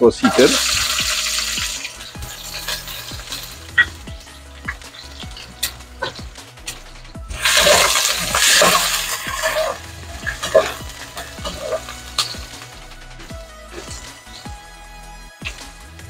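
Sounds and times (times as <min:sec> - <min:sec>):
vegetables sizzling in hot oil: 0:00.0 - 0:15.8.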